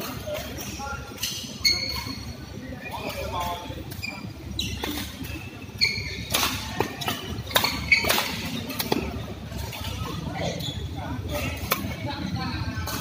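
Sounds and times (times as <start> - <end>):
shoes squeaking on court: 0.3 - 12.0.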